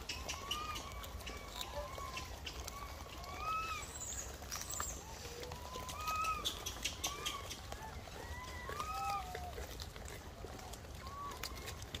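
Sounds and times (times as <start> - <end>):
small animals chirping: 0.0 - 12.0.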